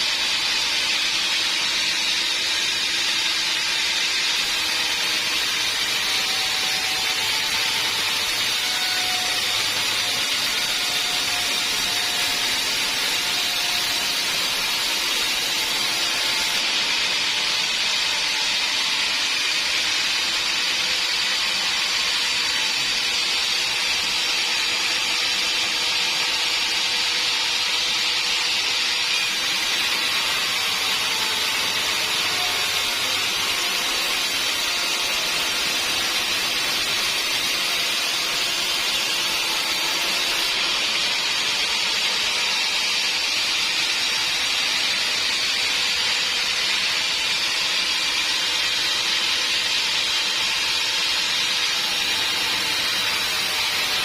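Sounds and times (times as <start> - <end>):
bandsaw cutting through log: 0.0 - 54.0.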